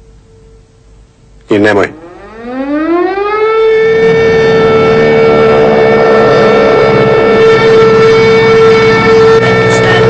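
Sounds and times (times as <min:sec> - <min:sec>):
biplane engines droning: 0:00.0 - 0:10.0
air-raid siren: 0:01.9 - 0:10.0.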